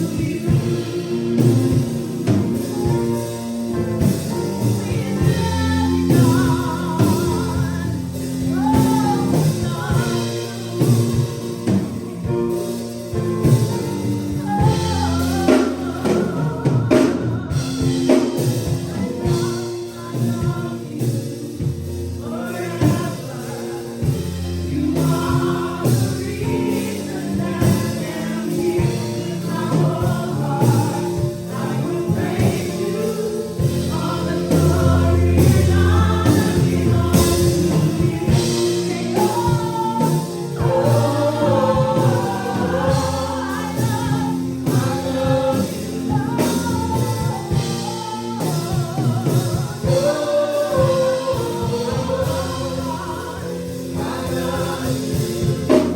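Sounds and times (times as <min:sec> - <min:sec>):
band accompaniment: 0:00.0 - 0:55.9
choir singing gospel: 0:00.0 - 0:55.9.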